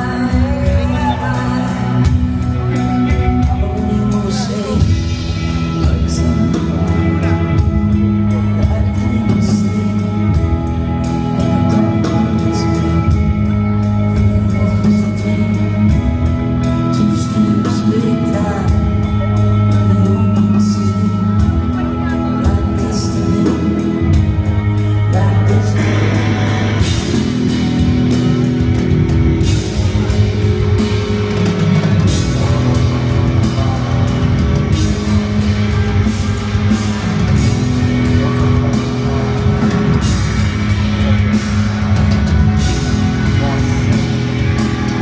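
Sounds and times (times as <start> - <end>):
bass notes: 0.0 - 45.0
guitar chords: 0.0 - 45.0
rock band playing: 0.0 - 45.0.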